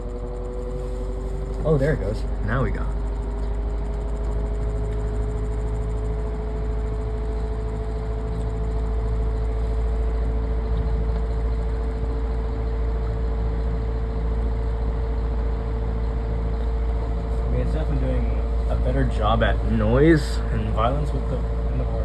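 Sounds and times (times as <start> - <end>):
desk fan running: 0.0 - 22.0.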